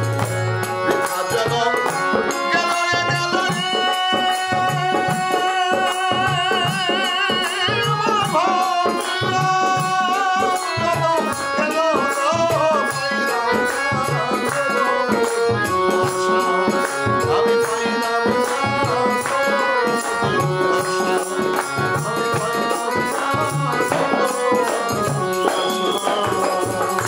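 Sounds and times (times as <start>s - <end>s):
man singing: 0.0s - 27.0s
rhythmic percussion: 0.0s - 27.0s.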